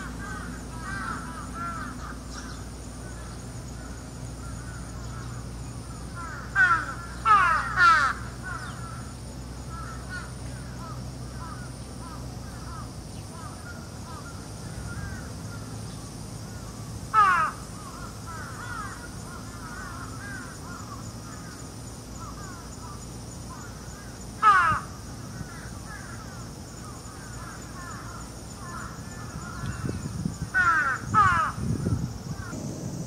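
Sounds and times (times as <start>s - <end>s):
crow cawing: 0.0s - 9.1s, 9.7s - 15.7s, 16.5s - 32.6s
insect buzz: 0.0s - 33.0s
small birds chirping: 0.0s - 33.0s.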